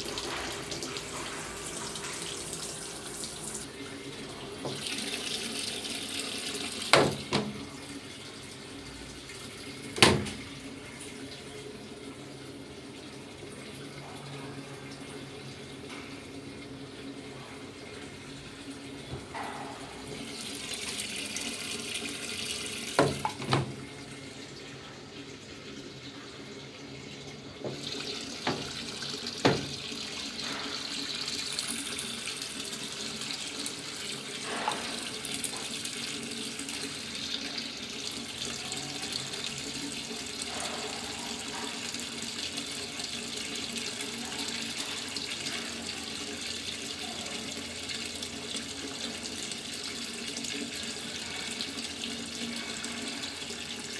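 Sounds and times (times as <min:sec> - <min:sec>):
water pouring into washing machine: 0:00.0 - 0:53.9.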